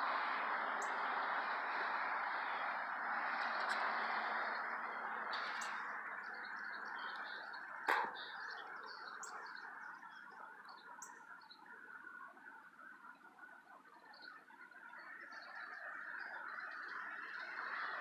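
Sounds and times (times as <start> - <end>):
small birds chirping: 0.7 - 18.0.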